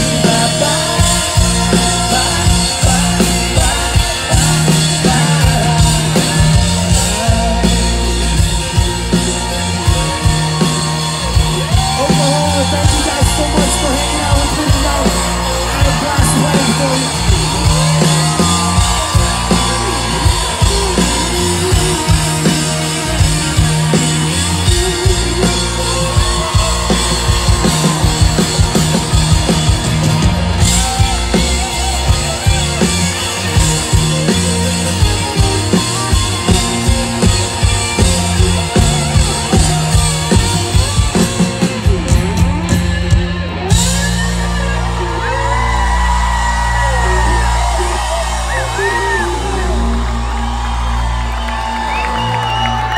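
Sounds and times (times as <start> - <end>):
drum kit beat: 0.0 - 52.9
live rock band playing: 0.0 - 52.9.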